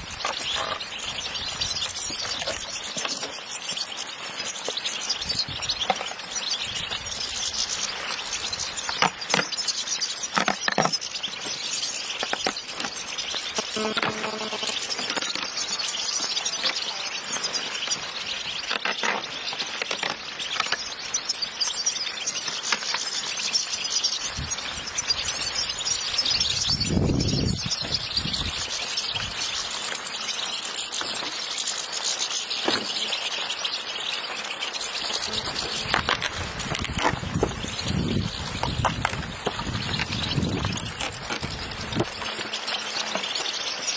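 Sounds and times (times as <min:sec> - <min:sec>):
flock of goldfinches twittering: 0:00.0 - 0:43.9.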